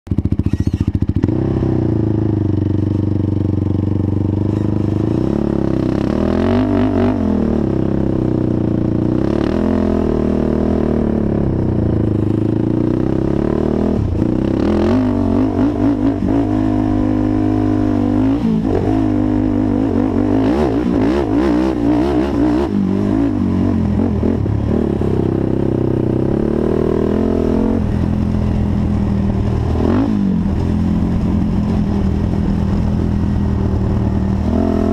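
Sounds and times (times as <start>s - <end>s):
quad engine revving: 0.1s - 34.9s.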